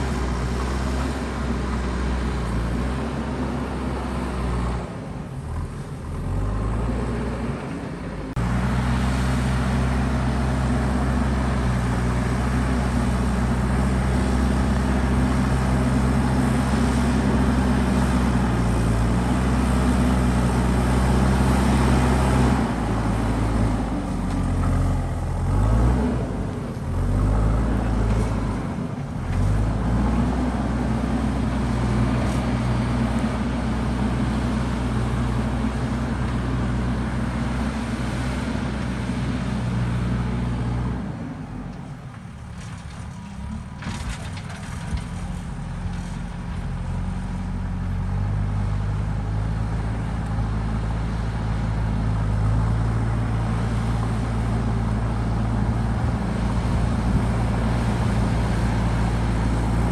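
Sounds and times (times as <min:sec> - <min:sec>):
backhoe diesel engine under load: 0:00.0 - 0:59.9.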